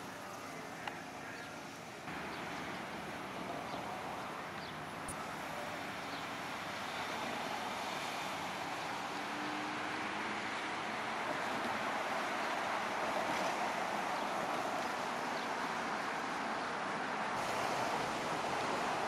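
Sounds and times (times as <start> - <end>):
cars passing on street: 0.0 - 19.0.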